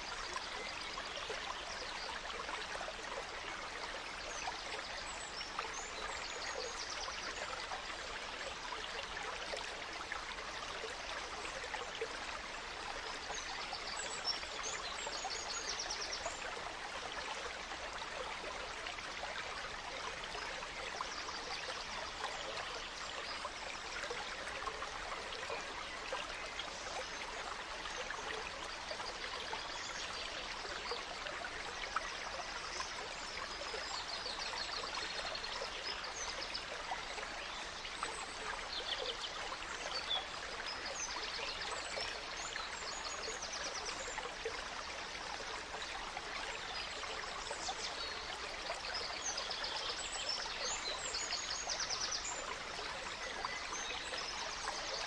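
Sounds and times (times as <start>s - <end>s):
gentle stream running: 0.0s - 55.0s.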